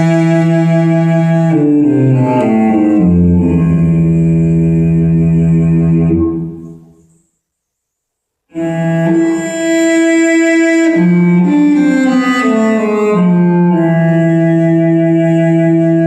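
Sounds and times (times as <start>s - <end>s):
low bowed-string music: 0.0s - 6.9s, 8.5s - 16.0s.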